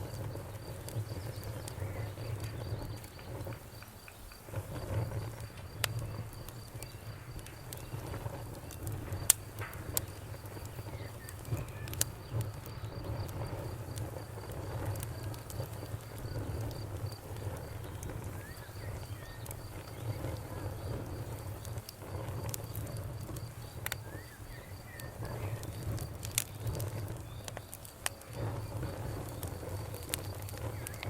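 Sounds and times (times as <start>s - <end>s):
crickets chirping: 0.0s - 31.0s
wood fire crackling: 0.0s - 31.0s.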